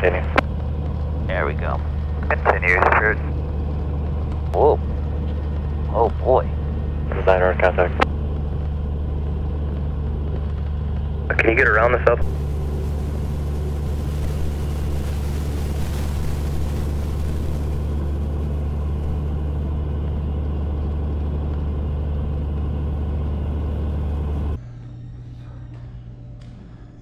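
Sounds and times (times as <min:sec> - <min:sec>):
propeller plane engine drone: 0:00.0 - 0:27.0.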